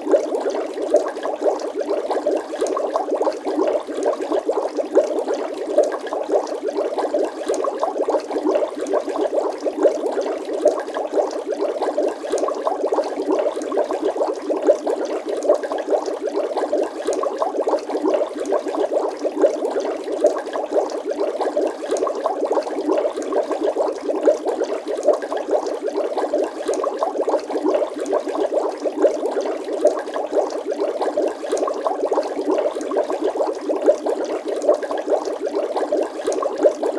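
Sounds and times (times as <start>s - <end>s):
water bubbling: 0.0s - 36.9s.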